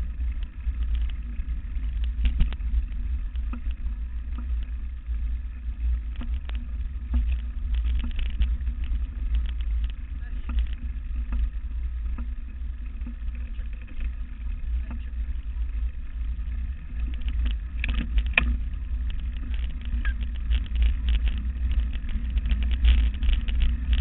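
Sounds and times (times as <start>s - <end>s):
bike clicks and rattles: 0.0s - 24.0s
wind rumble on microphone: 0.0s - 24.0s.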